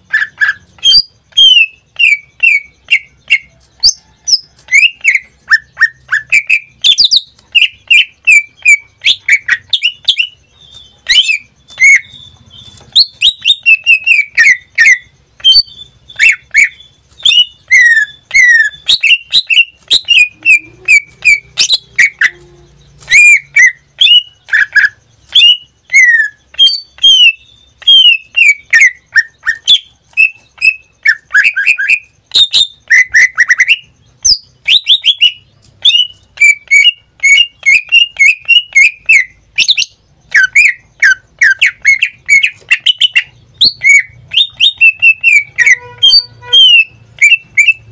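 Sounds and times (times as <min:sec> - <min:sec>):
bird whistling song: 0:00.0 - 0:47.9.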